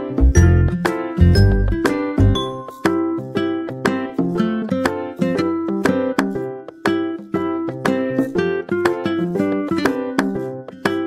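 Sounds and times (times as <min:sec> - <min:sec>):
plucked-string tune with bass: 0:00.0 - 0:10.4.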